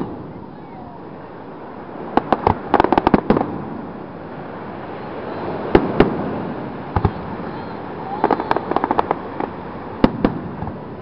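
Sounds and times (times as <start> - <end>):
fireworks bursting with bangs: 0.0 - 11.0.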